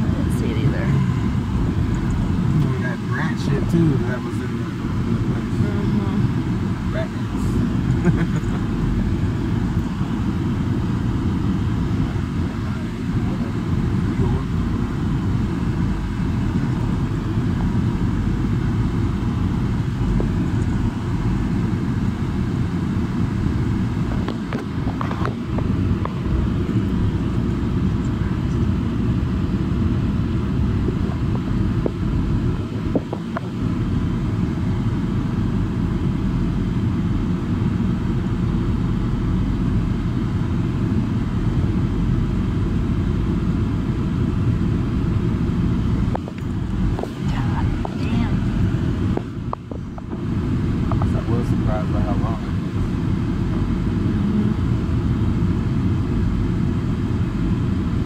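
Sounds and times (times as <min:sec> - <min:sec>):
engine and tyres rumbling on gravel: 0:00.0 - 0:58.0.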